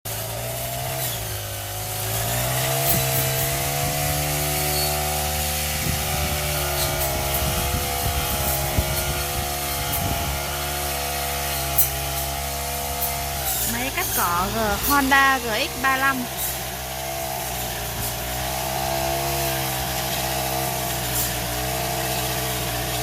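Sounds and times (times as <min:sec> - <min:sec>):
brush cutter engine revving: 0:00.1 - 0:23.0.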